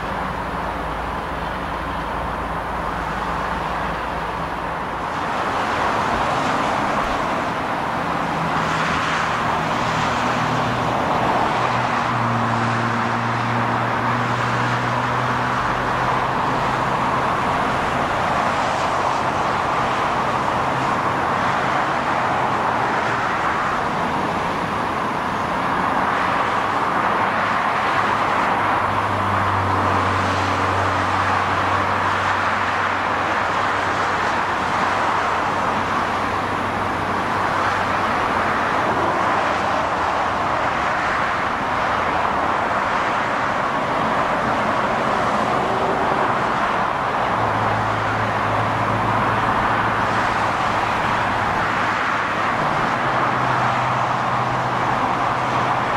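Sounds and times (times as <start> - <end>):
freeway traffic: 0.0 - 55.9.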